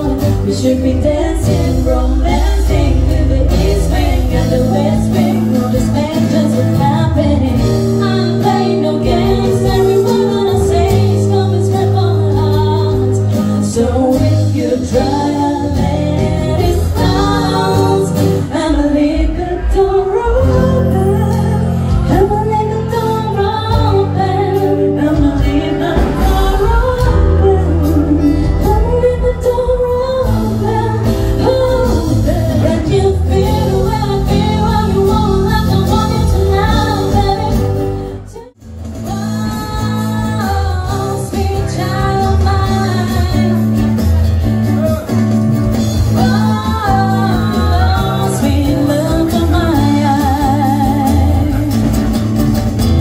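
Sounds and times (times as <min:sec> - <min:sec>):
women singing into microphones: 0:00.0 - 0:44.4, 0:45.8 - 0:52.4
instrumental backing: 0:00.0 - 0:53.0.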